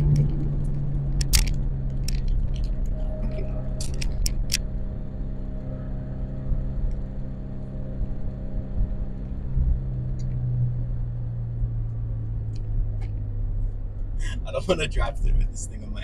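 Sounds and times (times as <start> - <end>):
car engine running: 0.0 - 16.0
road rumble: 0.0 - 16.0.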